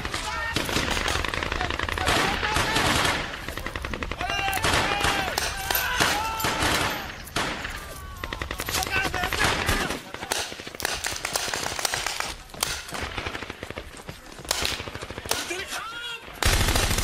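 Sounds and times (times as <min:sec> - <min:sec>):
paintball markers firing: 0:00.0 - 0:15.8.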